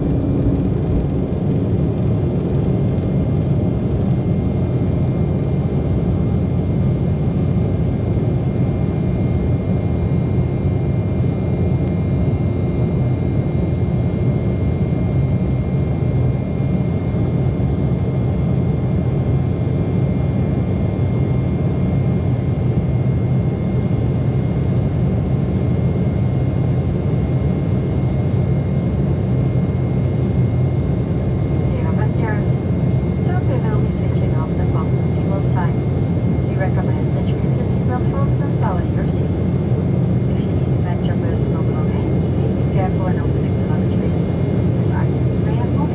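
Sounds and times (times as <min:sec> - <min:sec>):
jet engine cabin rumble: 0:00.0 - 0:45.9.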